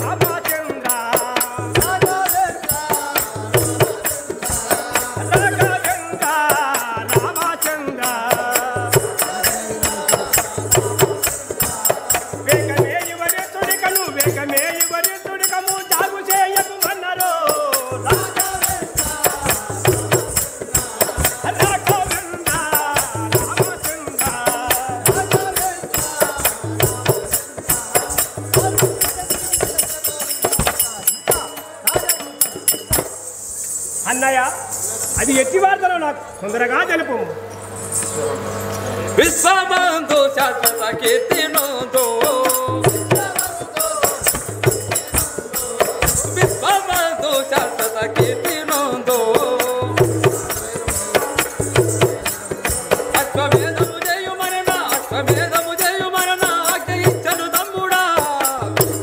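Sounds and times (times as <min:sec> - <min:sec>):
jingling small cymbals: 0:00.0 - 0:35.7, 0:37.6 - 0:59.0.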